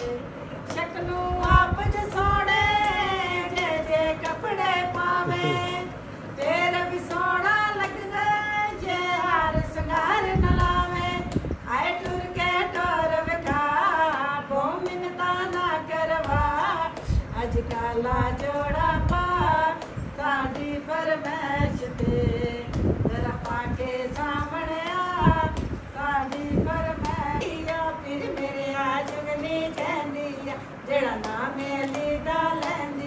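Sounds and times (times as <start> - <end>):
women singing unaccompanied: 0.0 - 33.0.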